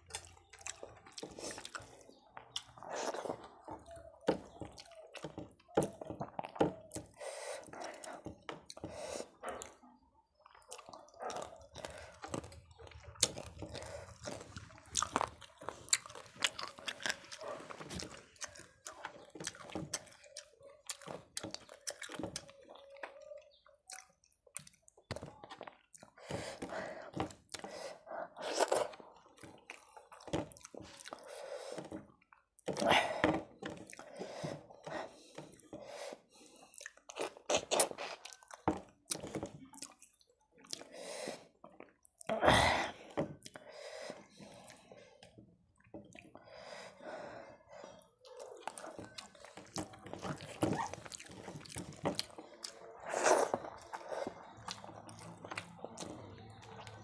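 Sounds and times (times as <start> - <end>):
chewing and wet mouth sounds: 0.0 - 57.0.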